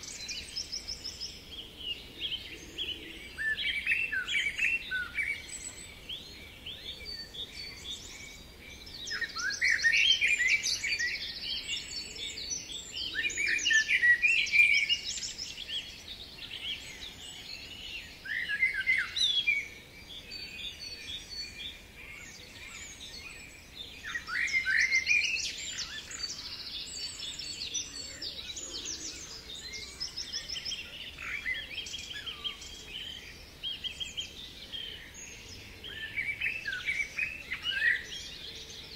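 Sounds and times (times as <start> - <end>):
birds singing and calling: 0.0 - 38.9.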